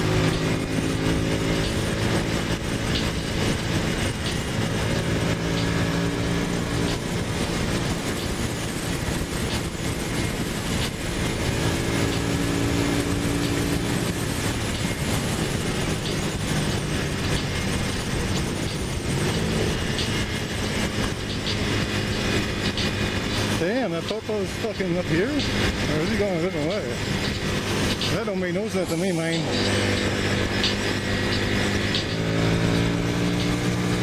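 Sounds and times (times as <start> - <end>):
motorcycle engine running: 0.0 - 34.0
wind rush over microphone: 0.0 - 34.0.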